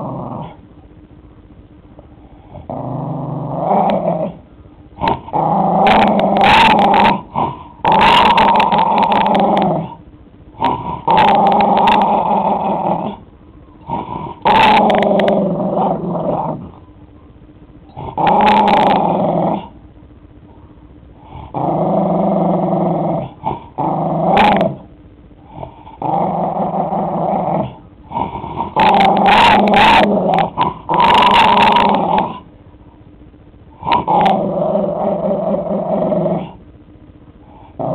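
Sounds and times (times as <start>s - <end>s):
dog growling: 0.0s - 0.6s, 2.4s - 10.0s, 10.6s - 16.8s, 17.9s - 19.8s, 21.2s - 32.5s, 33.8s - 36.6s, 37.5s - 37.9s.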